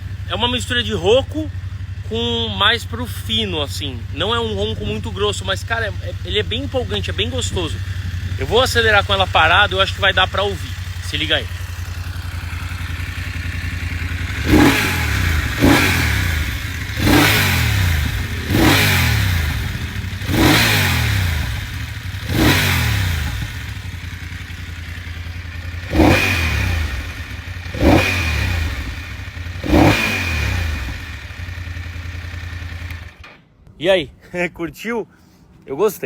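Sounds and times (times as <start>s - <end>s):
motorcycle engine idling: 0.0s - 33.4s
motorcycle engine revving: 0.0s - 33.4s.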